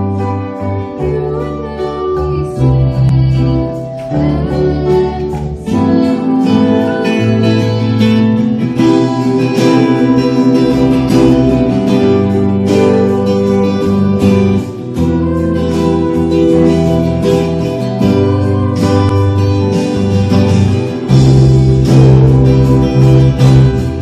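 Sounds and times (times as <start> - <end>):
drums: 0.0 - 24.0
electric bass: 0.0 - 24.0
strummed acoustic guitar: 0.0 - 24.0.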